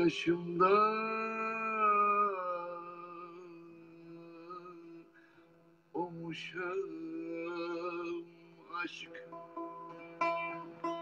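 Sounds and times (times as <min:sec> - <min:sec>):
man singing folk song: 0:00.0 - 0:05.1, 0:05.9 - 0:10.8.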